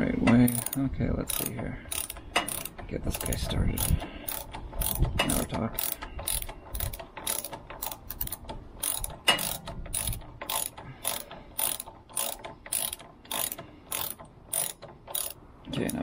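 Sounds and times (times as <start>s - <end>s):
ratchet wrench clicking: 0.4s - 16.0s.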